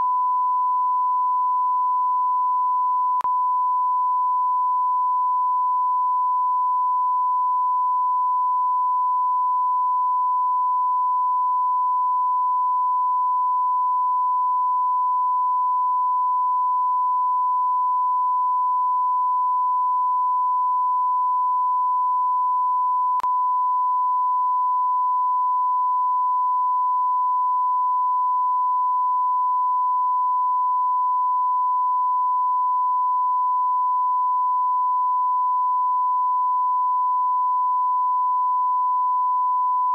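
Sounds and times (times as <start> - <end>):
sine-wave line-up tone: 0.0 - 39.9.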